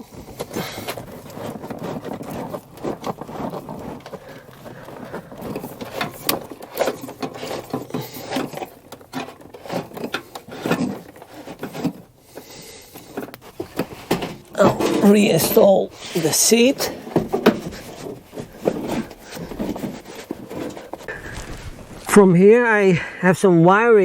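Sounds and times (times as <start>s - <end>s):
knocks and clicks of handling: 0.0s - 22.1s
wiring being pulled through: 0.0s - 22.6s.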